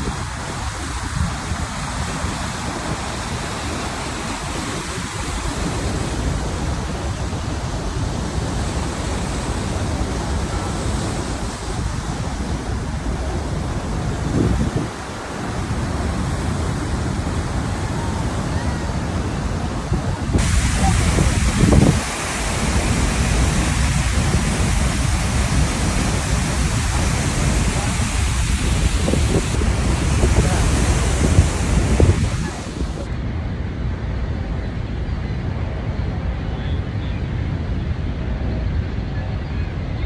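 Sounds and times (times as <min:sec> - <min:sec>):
waterfall roaring: 0:00.0 - 0:33.2
wind buffeting microphone: 0:00.0 - 0:36.5.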